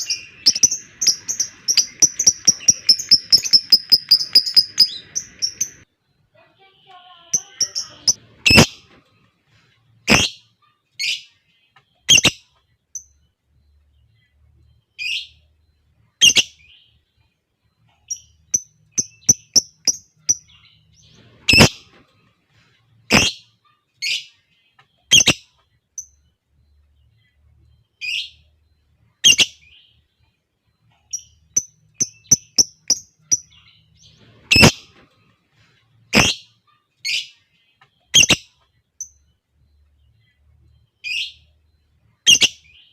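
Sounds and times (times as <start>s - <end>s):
lovebirds chirping: 0.0s - 42.9s.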